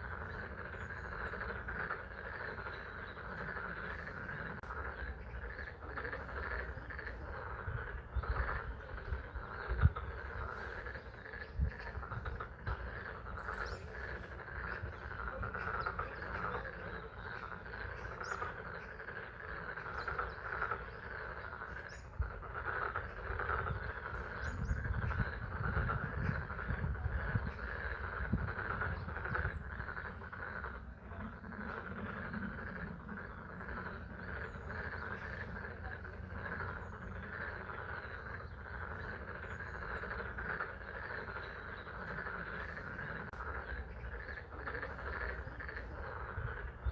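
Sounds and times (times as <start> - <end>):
frogs calling: 0.0 - 46.9.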